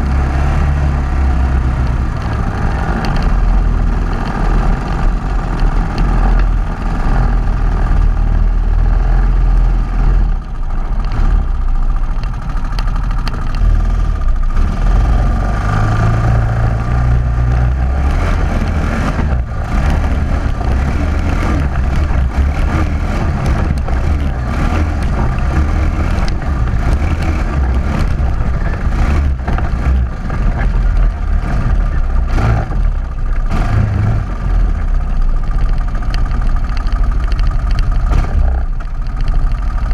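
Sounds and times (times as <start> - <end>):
atv engine rumbling: 0.0 - 39.9.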